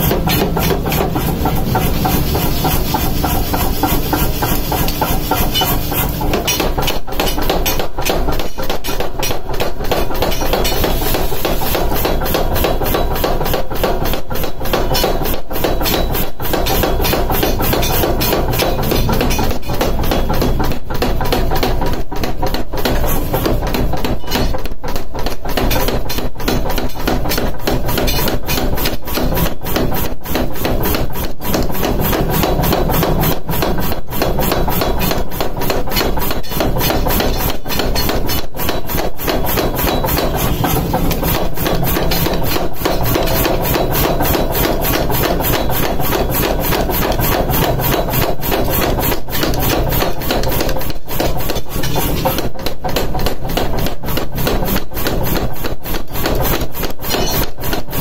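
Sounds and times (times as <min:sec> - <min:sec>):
power hammer pounding hot steel: 0:00.0 - 0:58.0.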